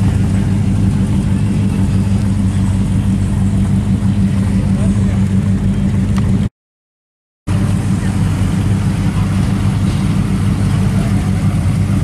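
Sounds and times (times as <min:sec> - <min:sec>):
car exhaust low rumble: 0:00.0 - 0:06.5, 0:07.5 - 0:12.0.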